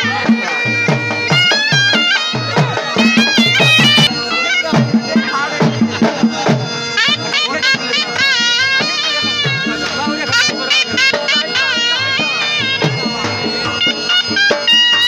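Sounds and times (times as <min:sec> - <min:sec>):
reed wind instrument melody: 0:00.0 - 0:15.0
steady drum beat: 0:00.0 - 0:15.0.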